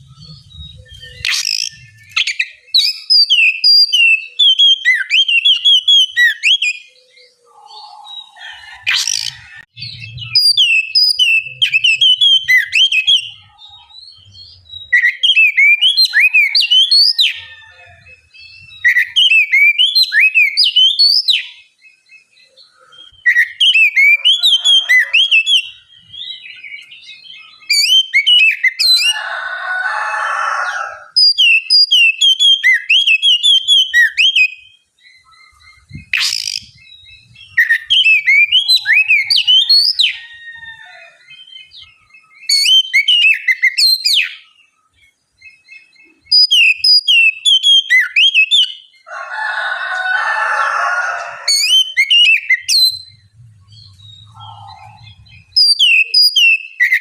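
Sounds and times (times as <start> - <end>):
bird singing whistled notes: 0.0 - 29.1, 31.1 - 40.4, 41.2 - 49.1, 51.5 - 57.0
harsh rasping bird song: 0.0 - 57.0.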